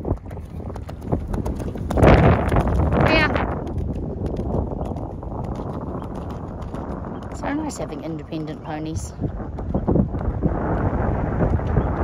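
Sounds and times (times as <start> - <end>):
horse hoofbeats on wet sand: 0.0 - 12.0
wind buffeting microphone: 0.0 - 12.0.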